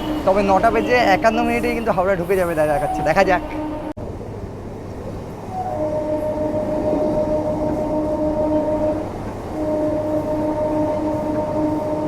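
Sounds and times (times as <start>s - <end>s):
steady droning tone: 0.0s - 4.1s, 5.3s - 12.0s
electric train running: 0.0s - 12.0s.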